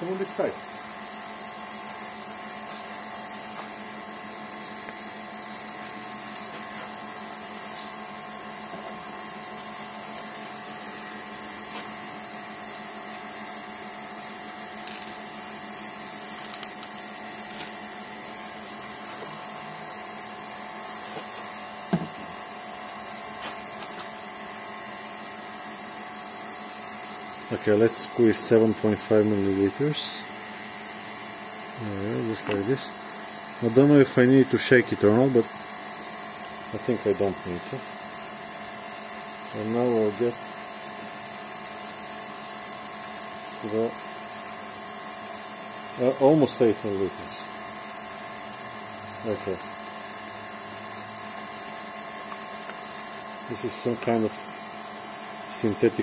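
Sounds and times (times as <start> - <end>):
vacuum pump humming: 0.0 - 56.0.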